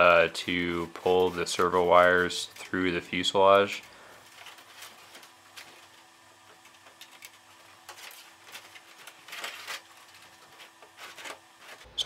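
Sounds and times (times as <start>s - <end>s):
faint steady hum: 0.0s - 12.0s
plastic parts clicking and rustling: 0.9s - 12.0s.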